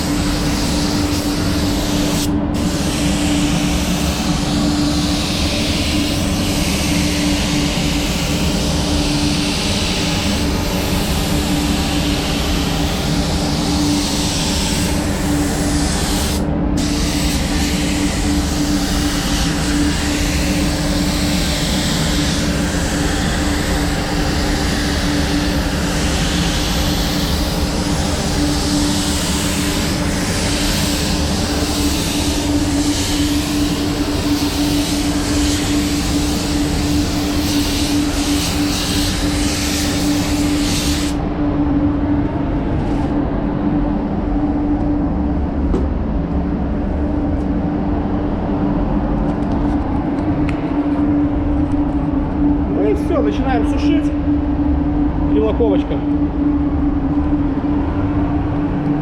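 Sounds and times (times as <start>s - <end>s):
constant hum: 0.0s - 59.0s
ventilation fans whirring: 0.0s - 59.0s.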